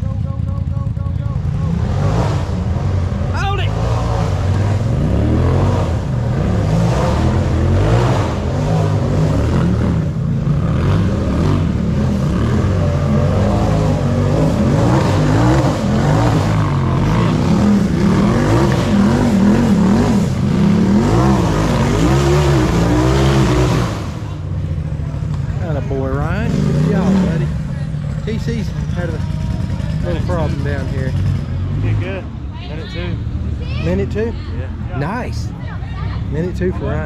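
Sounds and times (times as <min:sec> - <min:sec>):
engine revving: 0:00.0 - 0:35.4.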